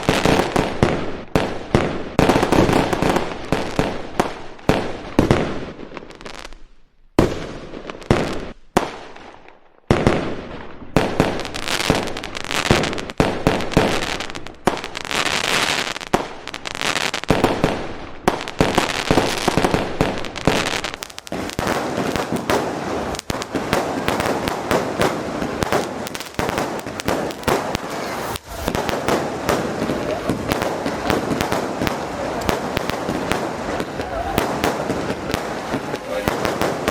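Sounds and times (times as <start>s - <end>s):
fireworks bangs and crackle: 0.0s - 36.9s.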